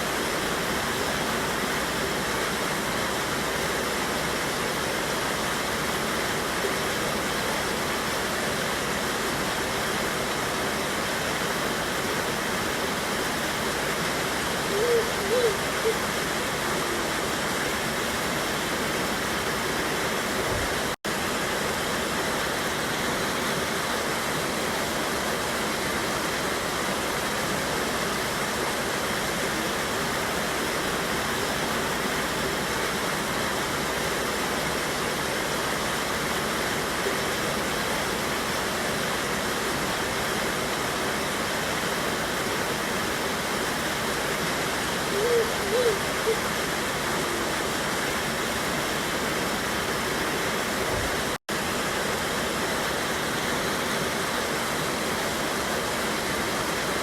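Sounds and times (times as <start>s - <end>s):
river cascade rushing: 0.0s - 57.0s.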